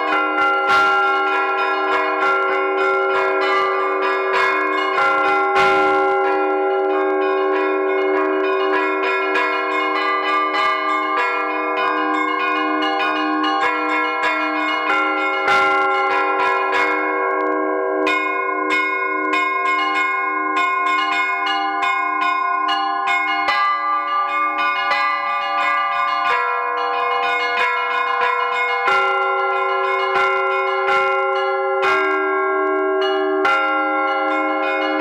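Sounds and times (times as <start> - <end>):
larger bells ringing: 0.0 - 35.0.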